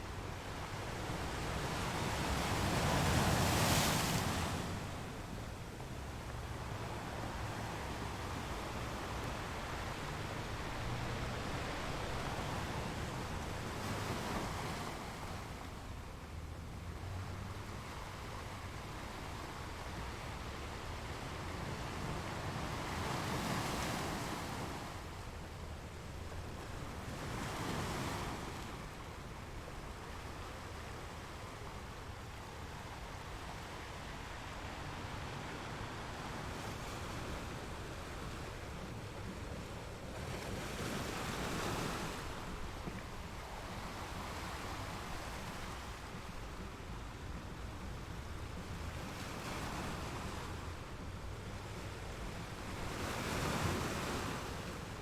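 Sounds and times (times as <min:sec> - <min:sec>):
surf washing: 0:00.0 - 0:55.0.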